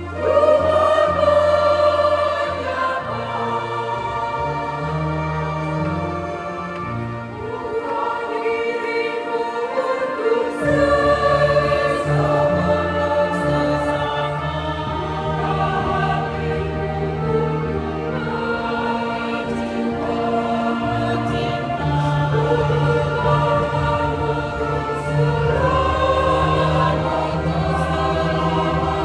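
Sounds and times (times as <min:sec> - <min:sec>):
low sustained accompaniment: 0:00.0 - 0:29.0
mixed choir singing in parts: 0:00.0 - 0:29.0.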